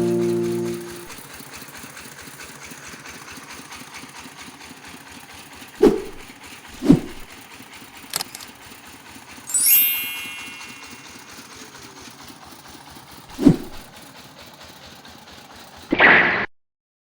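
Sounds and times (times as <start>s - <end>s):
small engine running: 0.0s - 15.9s.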